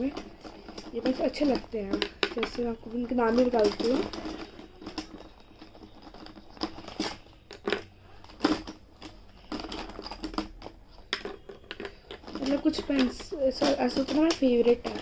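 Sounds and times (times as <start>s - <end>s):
rustling of pencil pouch: 0.0s - 15.0s.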